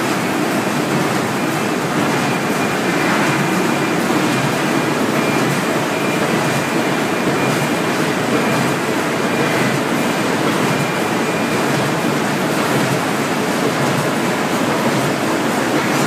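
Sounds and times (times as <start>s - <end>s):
printing machine running: 0.0s - 16.0s.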